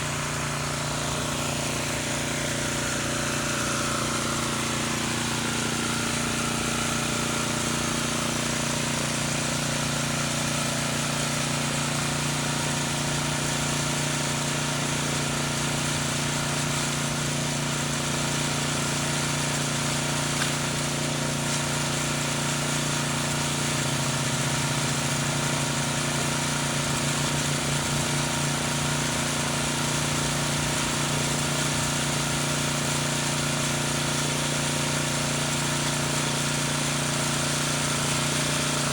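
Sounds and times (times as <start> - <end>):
pressure washer engine humming: 0.0 - 38.9.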